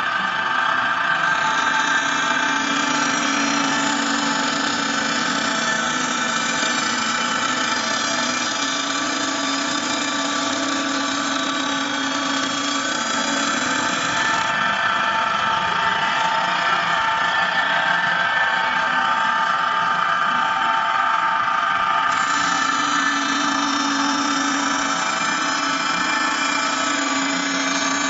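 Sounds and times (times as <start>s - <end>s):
wood lathe humming: 0.0s - 28.0s.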